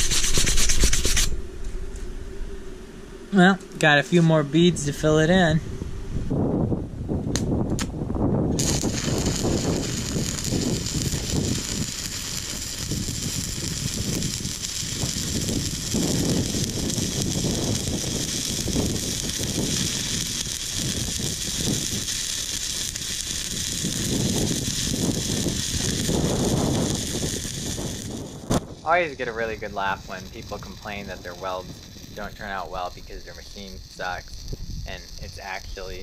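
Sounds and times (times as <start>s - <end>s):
welding arc crackling hiss: 0.0s - 2.2s, 8.6s - 36.0s.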